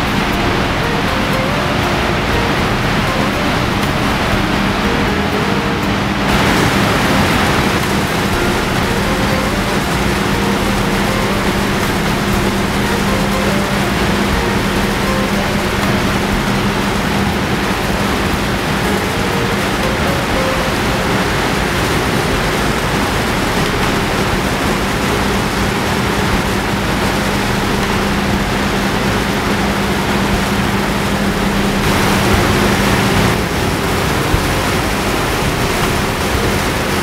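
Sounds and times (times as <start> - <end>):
water rushing over spillway: 0.0 - 37.0.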